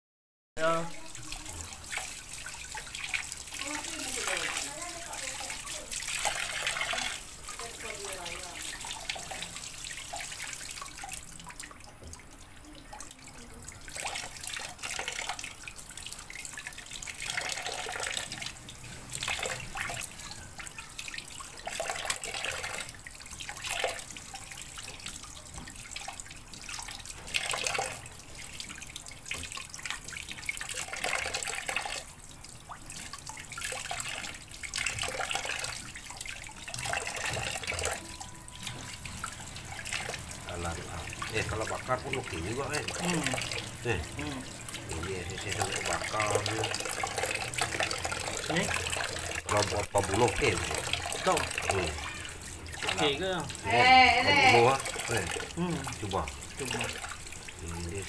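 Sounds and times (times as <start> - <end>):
tap water splashing into sink: 0.6 - 58.0.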